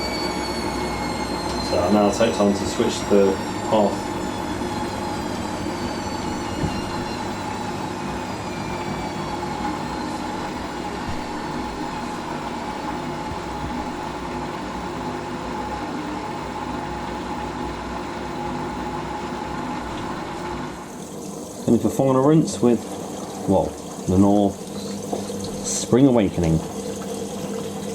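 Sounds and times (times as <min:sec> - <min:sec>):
steady running hum: 0:00.0 - 0:27.9
washing machine motor whine: 0:00.0 - 0:27.9.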